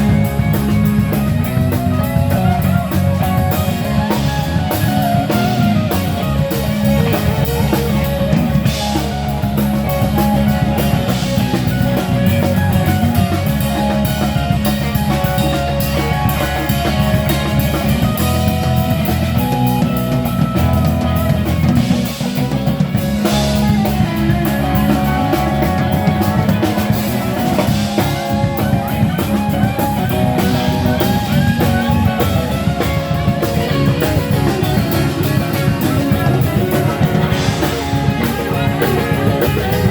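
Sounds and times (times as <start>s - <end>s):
drum kit: 0.0s - 39.9s
guitar: 0.0s - 39.9s.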